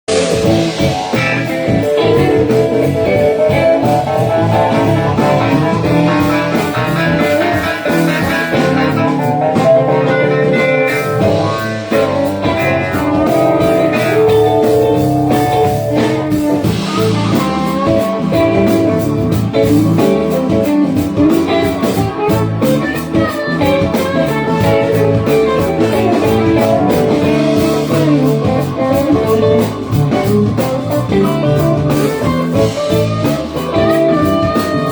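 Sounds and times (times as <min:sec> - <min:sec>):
live blues-rock band: 0:00.1 - 0:34.9.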